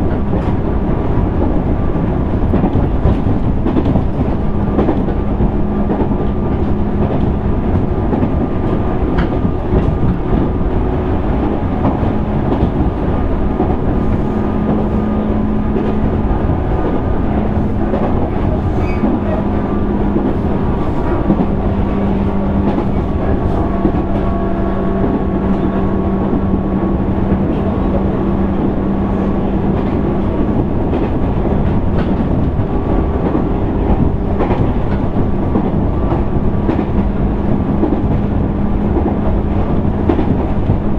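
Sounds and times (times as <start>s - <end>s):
rail joint clicks: 0.0s - 40.9s
train motor hum: 0.0s - 40.9s
train wheels rumbling on rail: 0.0s - 40.9s.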